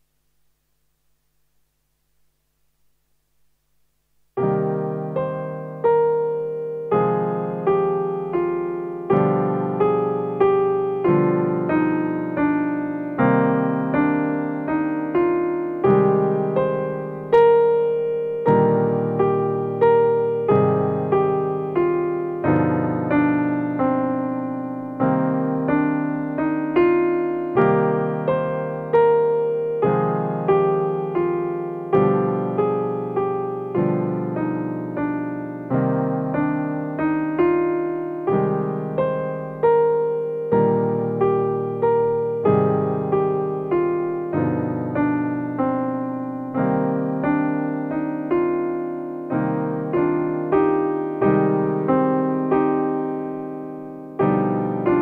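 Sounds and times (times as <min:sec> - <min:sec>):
solo piano music: 0:03.0 - 0:55.0.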